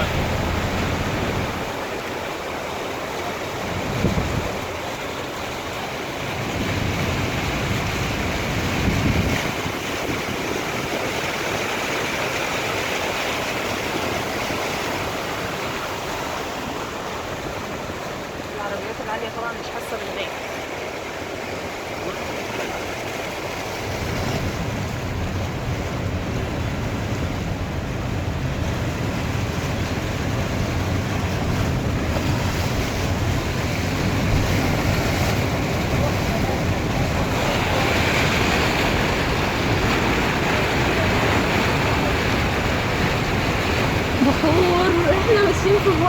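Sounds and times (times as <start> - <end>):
water rushing and splashing against car: 0.0 - 46.0.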